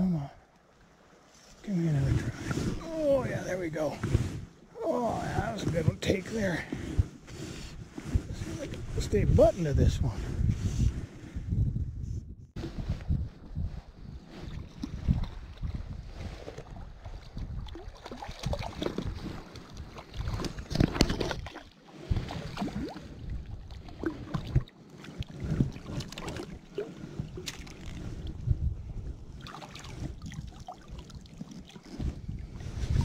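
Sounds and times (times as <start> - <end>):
water splashing and sloshing: 0.0 - 10.9, 12.6 - 33.0
wind rumble on microphone: 1.9 - 33.0.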